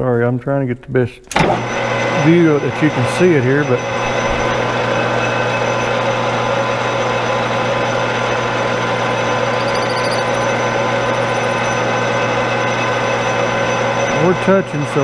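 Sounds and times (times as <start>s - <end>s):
metal lathe motor and gear hum: 1.3s - 15.0s.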